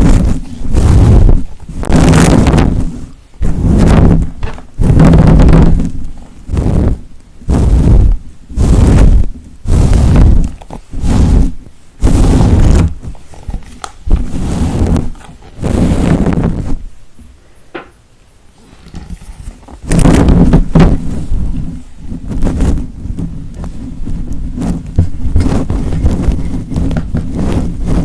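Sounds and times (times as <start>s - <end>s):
rubbing strokes on microphone: 0.0s - 17.3s, 18.3s - 28.0s.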